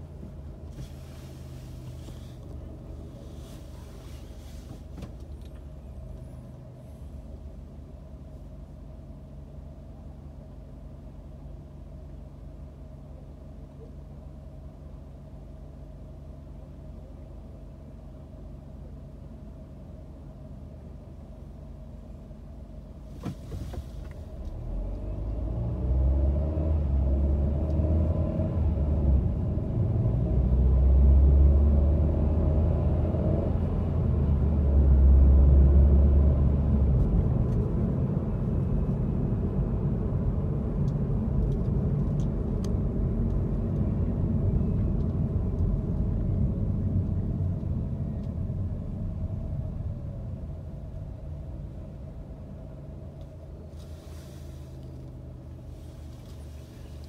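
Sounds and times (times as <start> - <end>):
car engine rumble: 0.0 - 57.0
road noise inside car cabin: 0.0 - 57.0.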